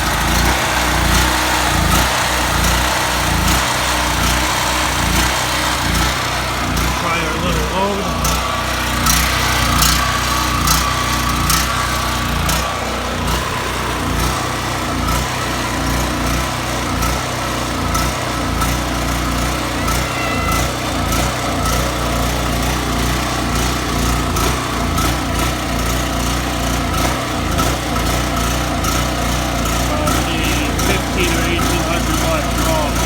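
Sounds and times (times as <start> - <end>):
generator engine running: 0.0 - 33.0.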